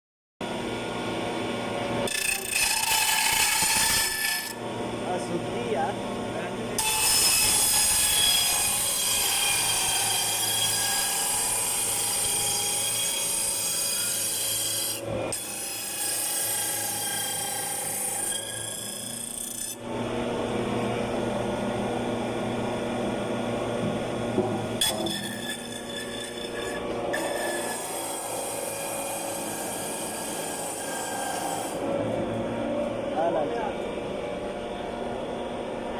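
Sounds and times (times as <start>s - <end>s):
sawdust machine grinding wood: 2.0s - 20.0s, 23.4s - 34.2s.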